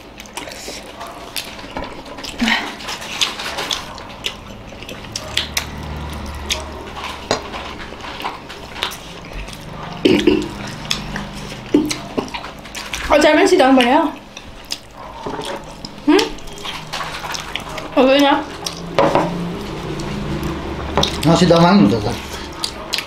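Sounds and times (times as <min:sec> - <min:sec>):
mouth eating sounds: 0:00.0 - 0:23.0.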